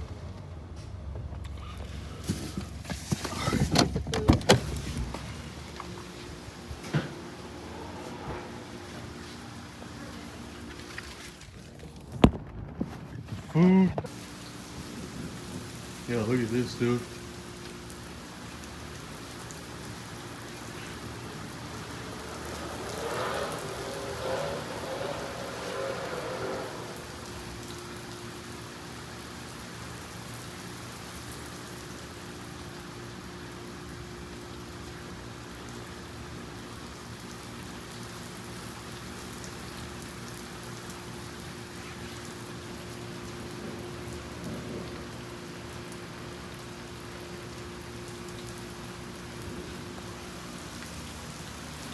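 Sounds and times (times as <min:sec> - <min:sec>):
steady rain falling: 0:01.4 - 0:51.9.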